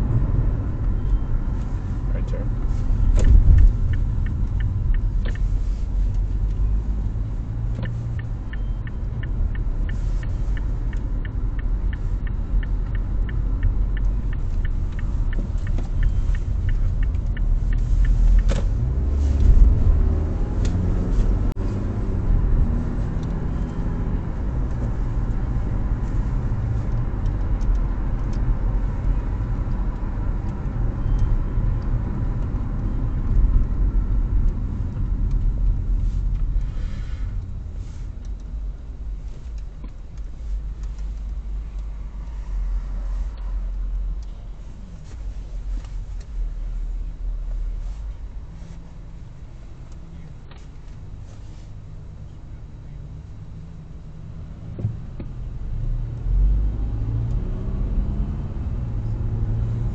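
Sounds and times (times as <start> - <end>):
car engine and tyres rumble: 0.0 - 59.9
turn signal ticking: 0.0 - 59.9.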